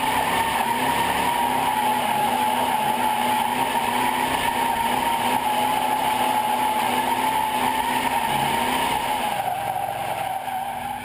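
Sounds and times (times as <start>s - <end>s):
car engine running hard: 0.0s - 11.0s
tyres squealing: 0.0s - 11.0s.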